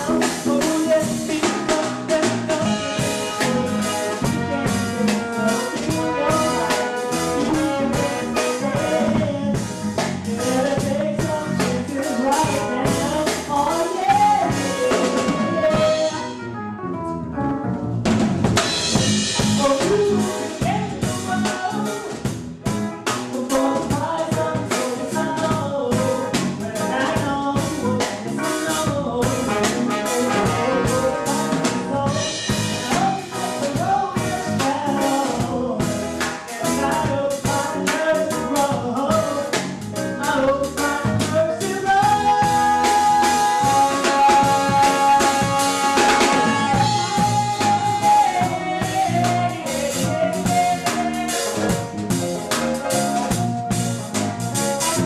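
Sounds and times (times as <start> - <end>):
lead singer singing: 0.0 - 16.4, 18.7 - 55.0
live reggae band playing: 0.0 - 55.0.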